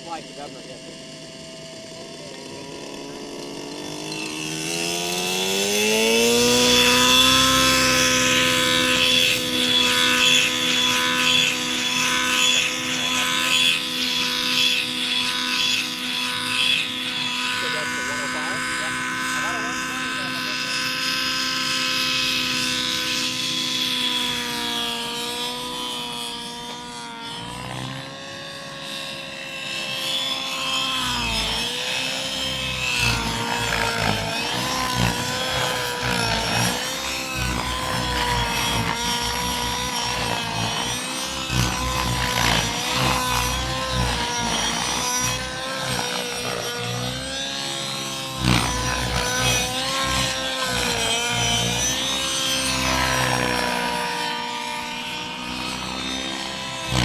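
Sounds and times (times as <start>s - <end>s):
model helicopter rotor whine: 0.0s - 57.0s.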